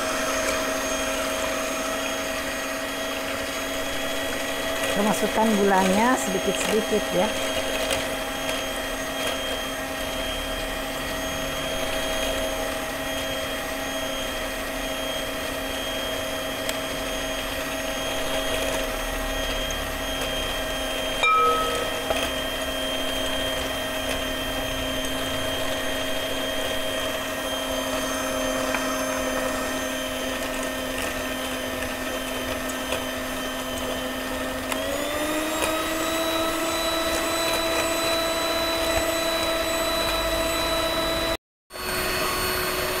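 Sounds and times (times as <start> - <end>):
electric hand mixer whining: 0.0 - 43.0.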